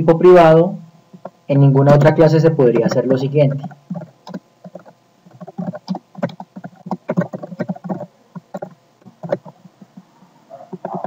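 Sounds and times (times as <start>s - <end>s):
keyboard typing: 1.2s - 11.0s.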